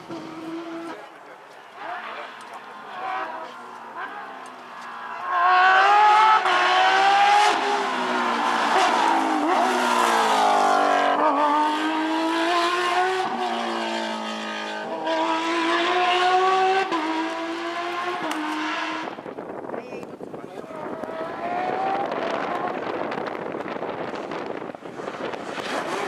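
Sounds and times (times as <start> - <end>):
rally car engine revving hard: 0.0 - 1.1, 1.8 - 19.3, 20.7 - 26.0.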